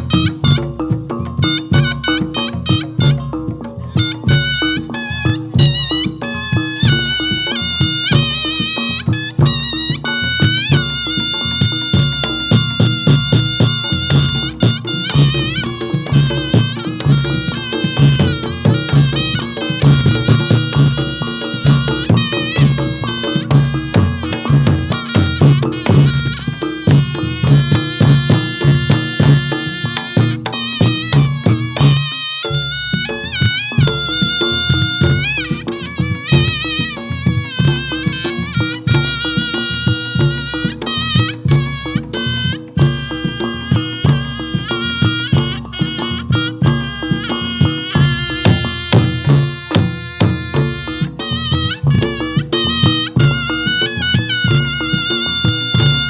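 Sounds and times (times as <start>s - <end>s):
drums and gongs beat: 0.0s - 56.0s
shawm wavering melody: 0.0s - 56.0s.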